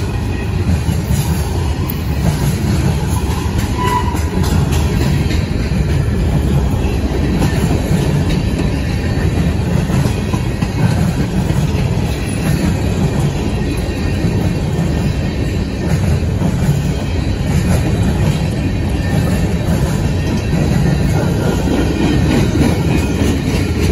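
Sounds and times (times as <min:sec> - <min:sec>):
freight train wheels rumbling on rails: 0:00.0 - 0:23.9.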